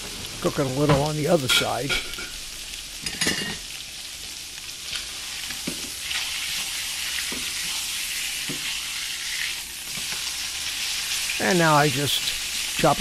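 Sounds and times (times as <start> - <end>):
fish sizzling in butter: 0.0 - 13.0.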